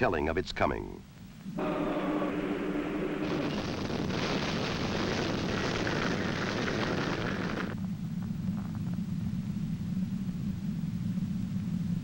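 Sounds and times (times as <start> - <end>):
low steady rumble: 0.7 - 12.0
tornado wind rushing: 1.5 - 11.4.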